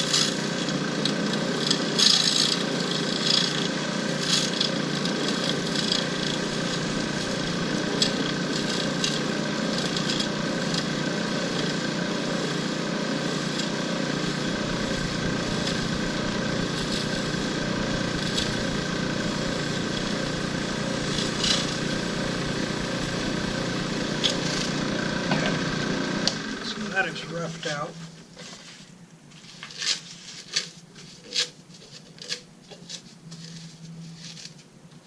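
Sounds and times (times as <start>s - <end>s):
lathe tool cutting: 0.0s - 28.2s.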